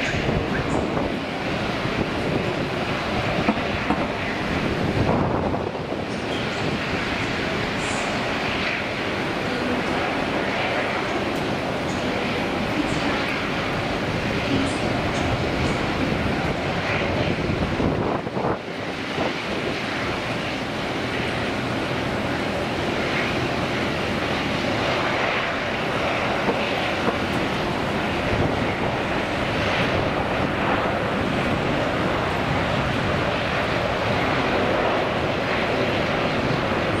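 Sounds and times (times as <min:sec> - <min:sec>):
jet engines of landing airliner: 0:00.0 - 0:37.0.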